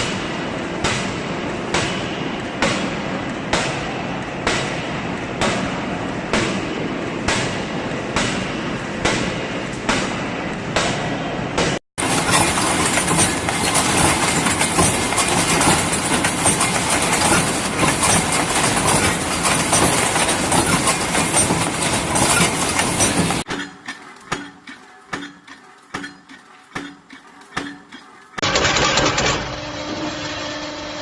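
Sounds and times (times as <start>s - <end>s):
machine knocking rhythmically: 0.0s - 28.8s
factory machinery clattering: 0.0s - 29.8s.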